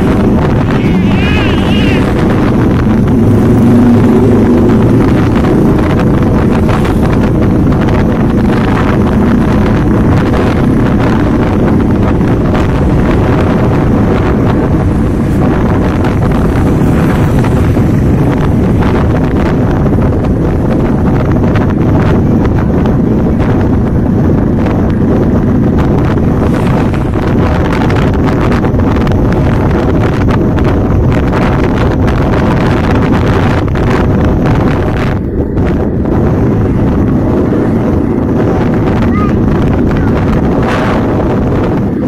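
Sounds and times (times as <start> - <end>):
motorcycle engine running: 0.0 - 42.0
tyres on road: 0.0 - 42.0
wind buffeting microphone: 0.0 - 42.0.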